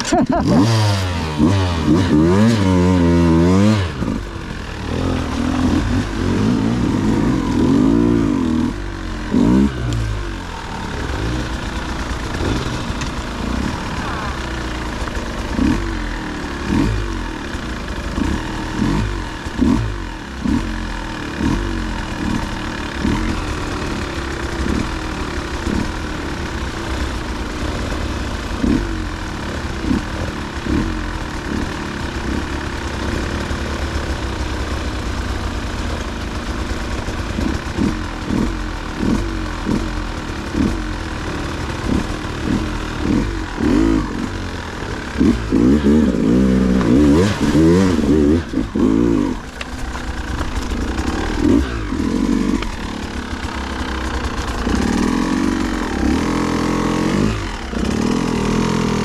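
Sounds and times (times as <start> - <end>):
dirt bike engine blipping throttle: 0.0 - 35.0, 35.6 - 59.0.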